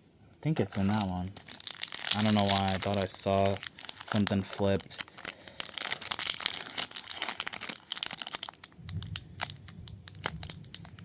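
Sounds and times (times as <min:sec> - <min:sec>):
foil wrapper crinkling: 0:00.7 - 0:11.0.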